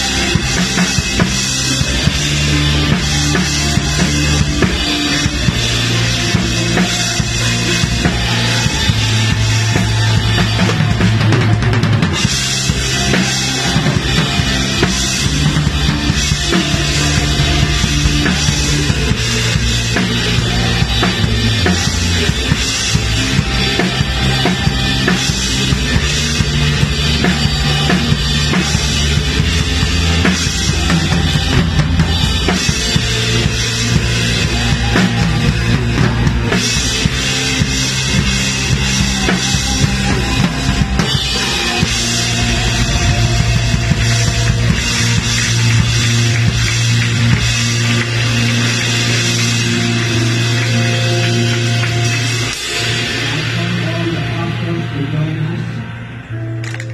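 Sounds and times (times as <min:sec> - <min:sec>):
drum kit groove: 0:00.0 - 0:54.5
live band music: 0:00.0 - 0:56.9.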